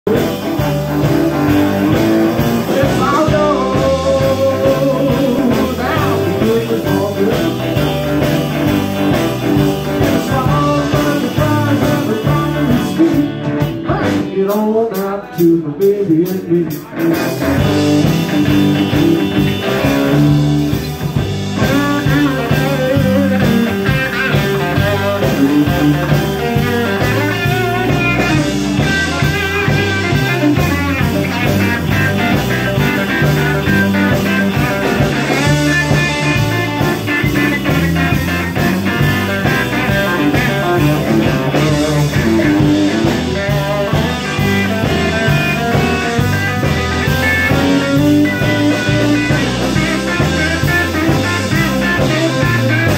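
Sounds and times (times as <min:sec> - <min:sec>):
drums: 0:00.0 - 0:52.9
electric guitar lead lines: 0:00.0 - 0:52.9.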